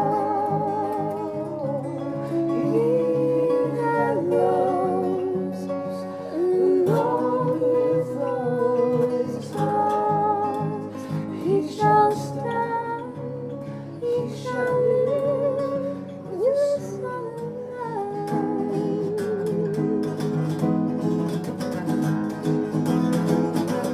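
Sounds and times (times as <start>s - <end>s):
person singing long wavering notes: 0.0s - 20.6s
acoustic guitar chords: 0.0s - 23.9s.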